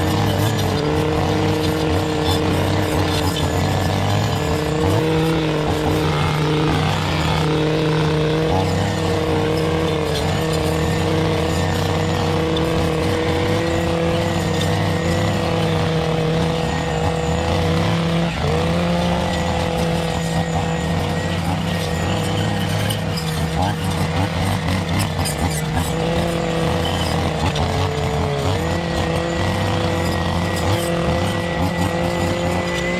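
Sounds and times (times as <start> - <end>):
small engine running: 0.0 - 32.9.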